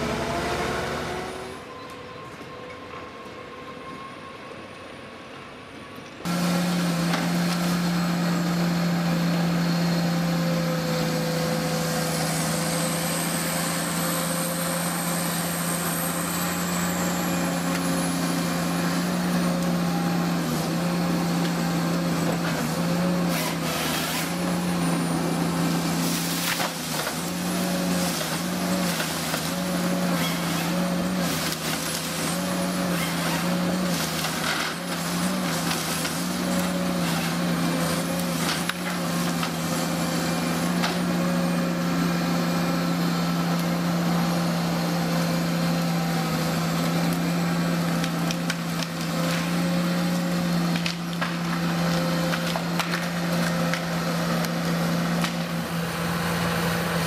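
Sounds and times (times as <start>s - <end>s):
forest machine engine drone: 0.0s - 57.0s.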